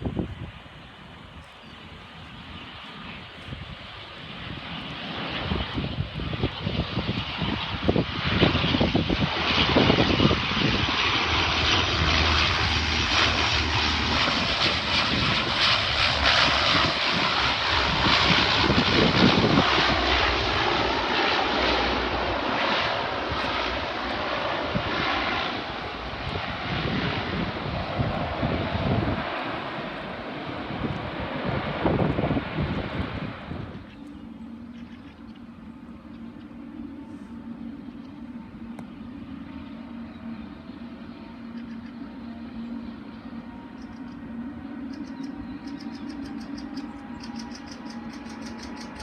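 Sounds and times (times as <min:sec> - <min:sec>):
airliner engines roaring: 0:00.0 - 0:49.0
wind rumble on microphone: 0:00.0 - 0:49.0.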